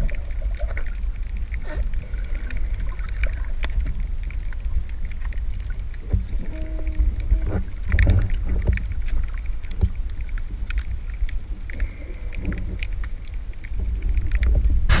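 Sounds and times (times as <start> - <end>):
underwater rumble of water: 0.0 - 15.0.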